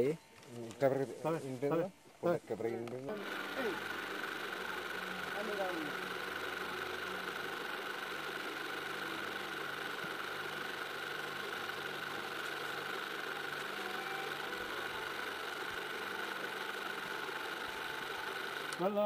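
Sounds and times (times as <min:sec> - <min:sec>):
engine humming: 0:02.7 - 0:19.0.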